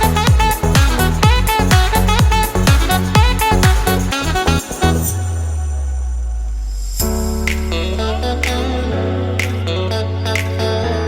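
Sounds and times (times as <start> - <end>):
background music with steady beat: 0.0 - 10.8
bass line: 0.0 - 11.0.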